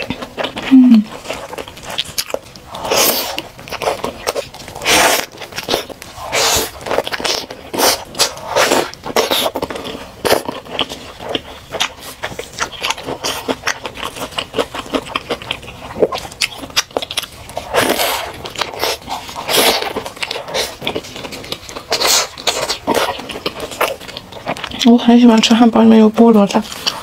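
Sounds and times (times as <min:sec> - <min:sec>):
chewing and crunching hamburger: 0:00.0 - 0:27.0.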